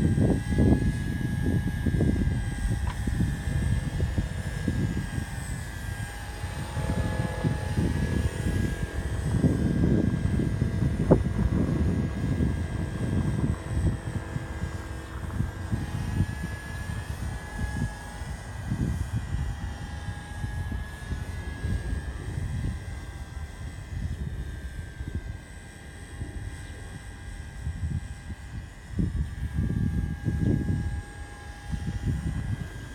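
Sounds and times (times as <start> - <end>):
rc helicopter whine: 0.0 - 32.9
wind buffeting microphone: 0.0 - 32.9.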